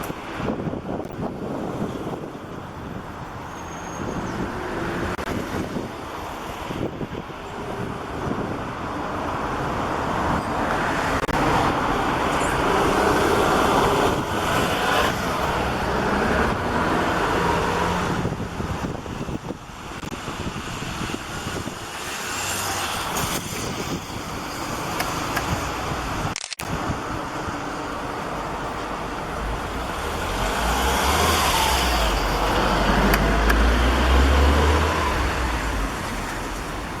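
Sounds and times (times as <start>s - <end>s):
rumbling road traffic: 0.0s - 37.0s.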